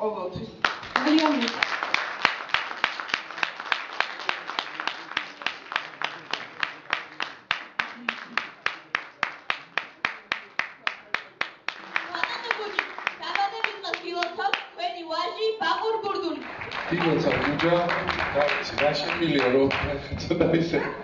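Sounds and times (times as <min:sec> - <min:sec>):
scattered clapping: 0:00.6 - 0:14.7, 0:16.3 - 0:20.4
audience clapping in unison: 0:00.6 - 0:14.8, 0:16.2 - 0:20.4.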